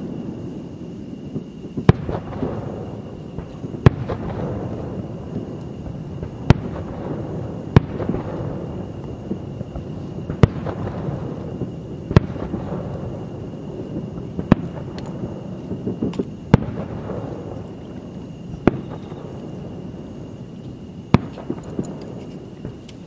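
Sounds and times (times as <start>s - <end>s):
crackling firework pops: 1.2s - 13.2s, 13.8s - 19.7s, 20.6s - 23.0s.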